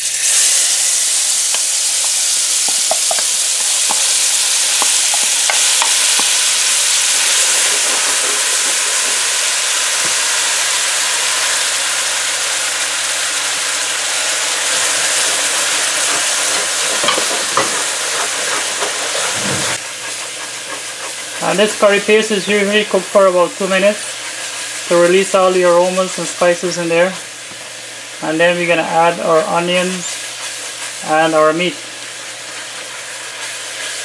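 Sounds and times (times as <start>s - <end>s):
paste sizzling in hot oil: 0.0s - 34.0s.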